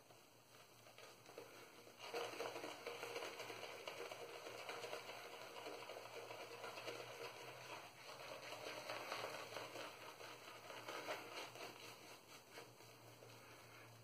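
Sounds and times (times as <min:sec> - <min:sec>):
shaving brush wet brushing: 0:00.5 - 0:14.0.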